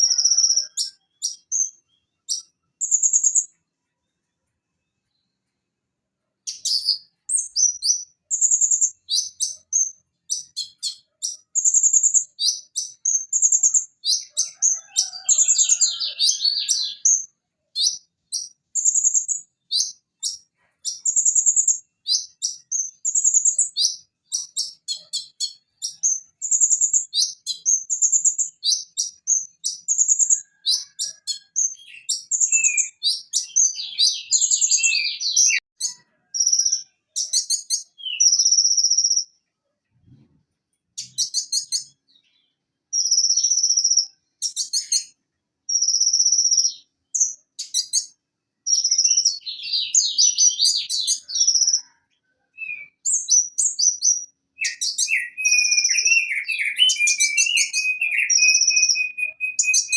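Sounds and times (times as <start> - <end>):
sunbird singing: 0.0 - 3.6, 6.4 - 39.3, 41.0 - 59.9.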